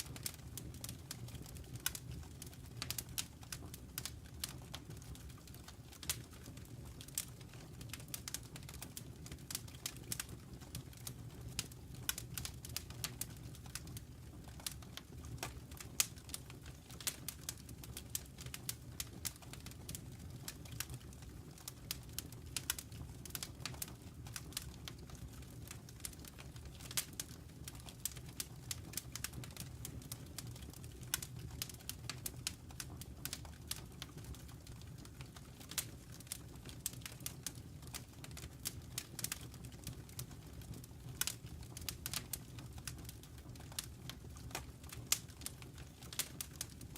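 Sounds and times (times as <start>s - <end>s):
low steady fire rumble: 0.0s - 46.9s
wood fire crackling and popping: 0.0s - 46.9s.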